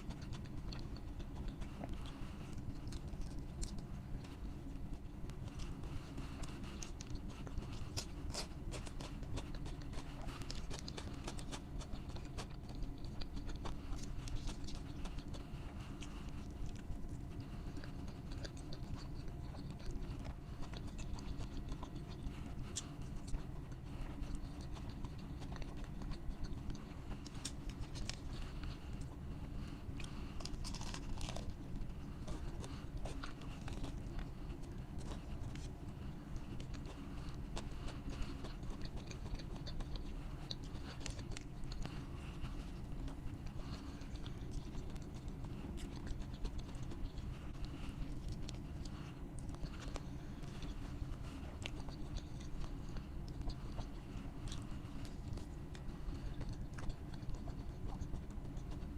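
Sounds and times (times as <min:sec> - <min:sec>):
person chewing crunchy food: 0:00.0 - 0:58.9
steady low hum: 0:00.0 - 0:58.9.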